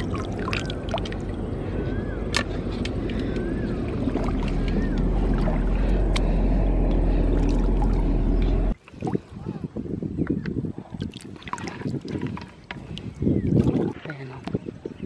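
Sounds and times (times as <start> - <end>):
shallow river water flowing: 0.0 - 15.0
wind on microphone: 0.0 - 15.0.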